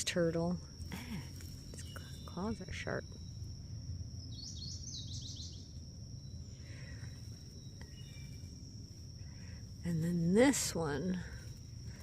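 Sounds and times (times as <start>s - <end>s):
high-pitched insect drone: 0.0s - 12.0s
low rumble: 0.0s - 12.0s.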